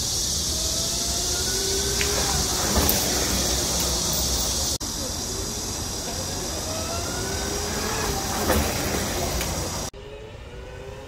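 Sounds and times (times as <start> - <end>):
electric scooter motor whine: 0.0 - 11.0.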